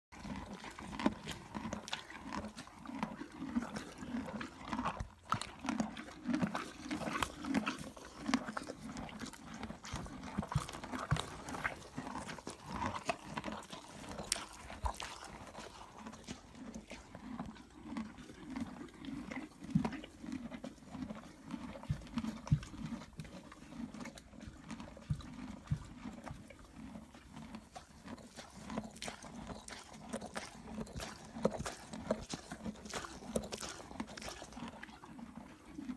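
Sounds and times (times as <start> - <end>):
horse crunching grain: 0.1 - 35.9.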